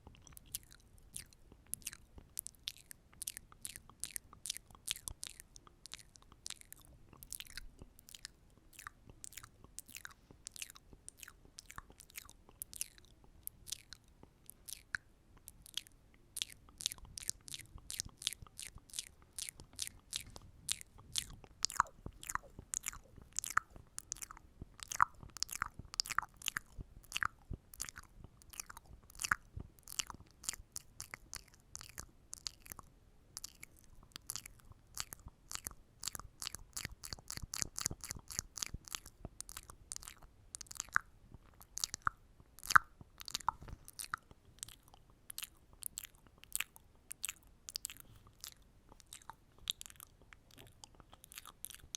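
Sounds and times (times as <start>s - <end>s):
wet mouth clicks and pops: 0.1s - 51.9s.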